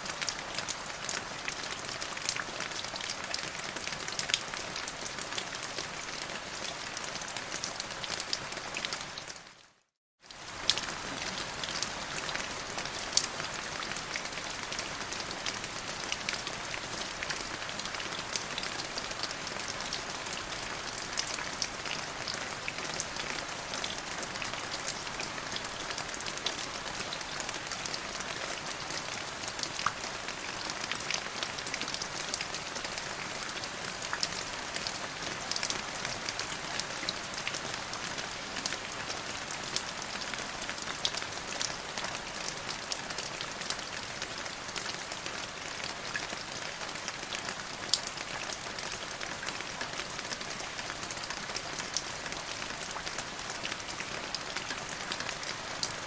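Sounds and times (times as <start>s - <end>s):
rain on hard surface: 0.0s - 56.0s.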